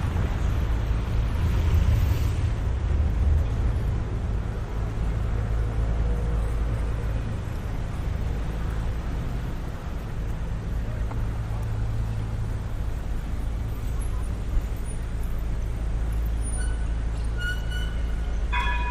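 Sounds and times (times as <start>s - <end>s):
street noise hiss: 0.0s - 18.9s
vehicle engine rumble: 0.0s - 18.9s.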